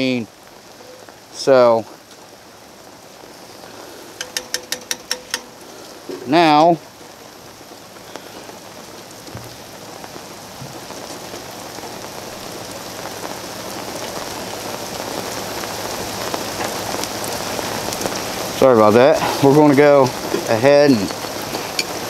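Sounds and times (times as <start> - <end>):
raindrops ticking on cooking gear: 0.0 - 22.0.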